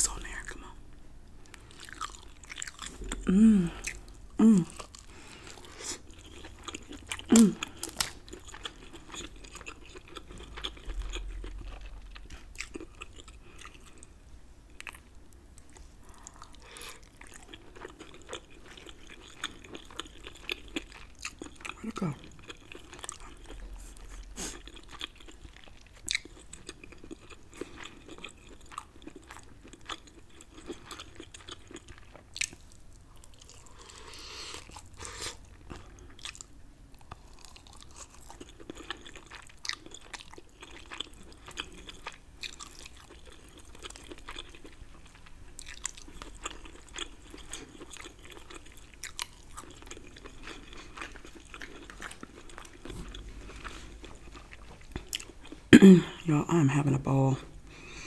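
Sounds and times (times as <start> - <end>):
wet chewing and lip-smacking: 1.4 - 14.1, 14.7 - 55.7.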